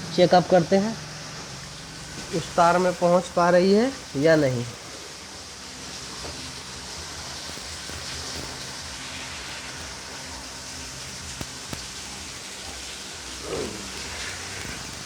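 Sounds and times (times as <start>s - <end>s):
steady hissing: 0.0s - 15.0s.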